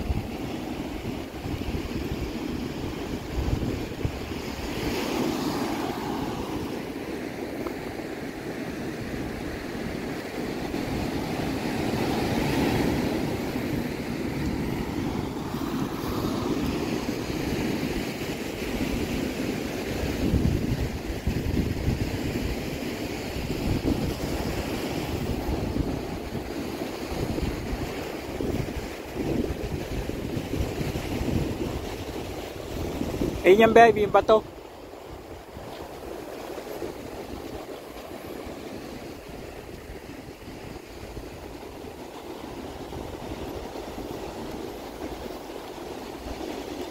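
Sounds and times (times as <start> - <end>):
ocean surf breaking on rocks: 0.0 - 46.9
wind buffeting microphone: 0.0 - 46.9.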